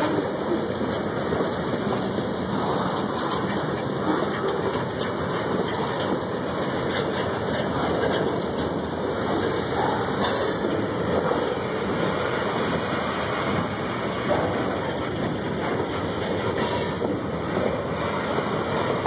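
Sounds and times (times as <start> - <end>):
freight cars rolling on rails: 0.0 - 19.0.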